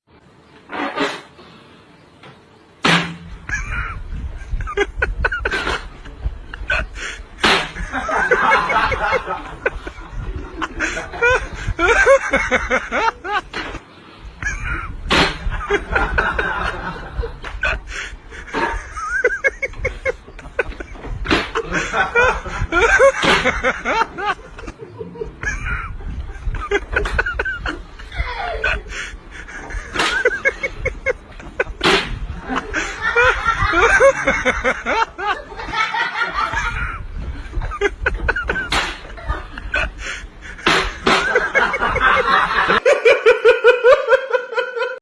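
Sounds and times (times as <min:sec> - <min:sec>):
people laughing: 0:03.5 - 0:13.8, 0:14.4 - 0:45.0.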